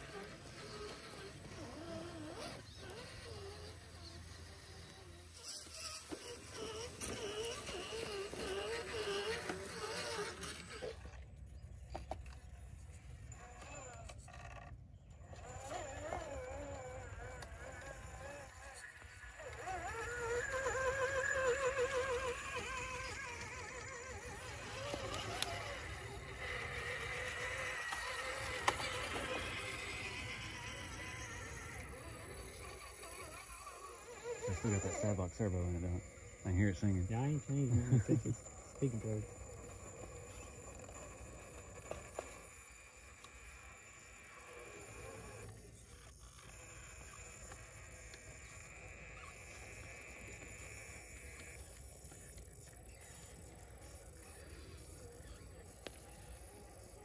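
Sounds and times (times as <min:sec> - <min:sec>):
small electric motors whining: 0:00.0 - 0:57.0.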